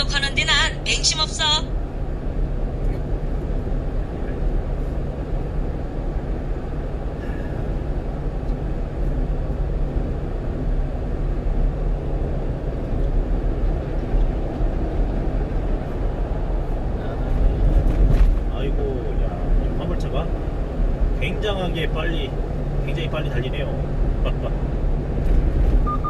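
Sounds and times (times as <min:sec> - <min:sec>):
truck engine drone: 0:00.0 - 0:26.0.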